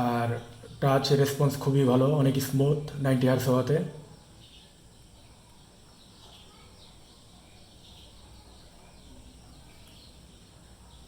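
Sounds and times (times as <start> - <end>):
faint high chirps: 0.0 - 11.0
steady hiss: 0.0 - 11.0.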